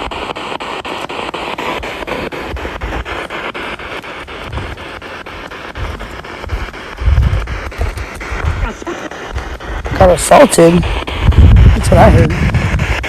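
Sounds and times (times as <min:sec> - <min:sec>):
radio static: 0:00.0 - 0:13.0.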